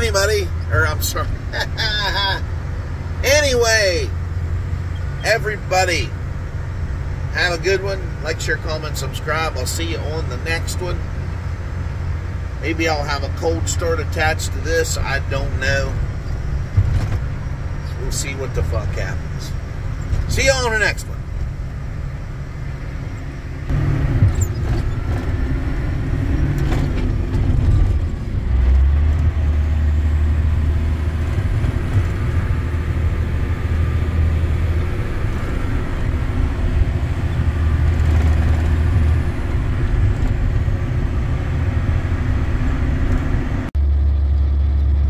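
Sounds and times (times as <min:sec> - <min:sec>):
vehicle engine droning: 0:00.0 - 0:45.0.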